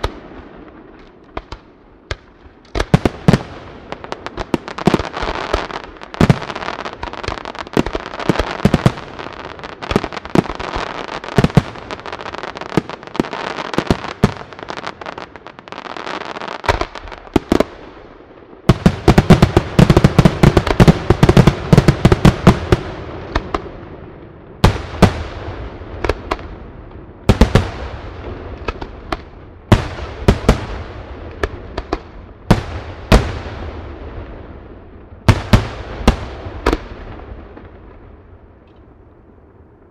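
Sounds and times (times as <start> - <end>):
firework bangs and booms: 0.0 - 39.9
fireworks crackling and popping: 0.0 - 39.9.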